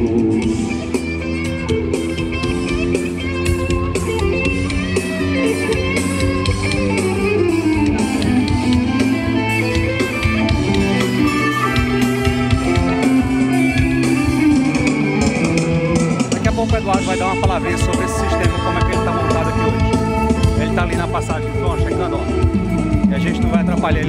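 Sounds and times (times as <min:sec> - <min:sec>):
live band with guitar and drums: 0:00.0 - 0:24.0.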